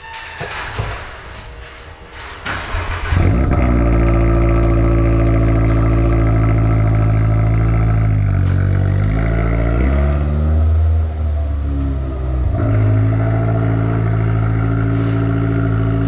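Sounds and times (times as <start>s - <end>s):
car engine starting and idling: 2.4s - 16.0s.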